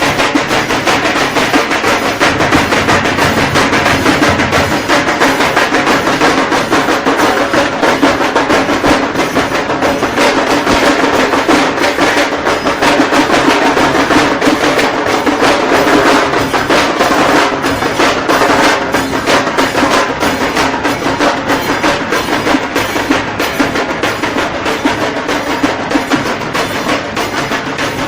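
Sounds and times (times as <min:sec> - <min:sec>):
drums beaten in fast rhythm: 0:00.0 - 0:28.0.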